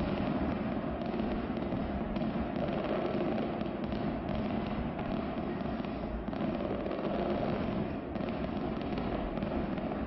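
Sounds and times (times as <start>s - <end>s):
distant fireworks popping and crackling: 0.0s - 10.0s.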